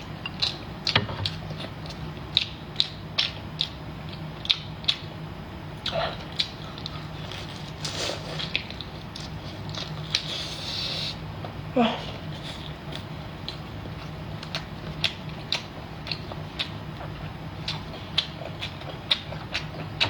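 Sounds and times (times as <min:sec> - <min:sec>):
steady low hum: 0:00.0 - 0:20.0
shrimp being chewed: 0:00.2 - 0:05.1, 0:05.8 - 0:10.6, 0:12.4 - 0:20.0.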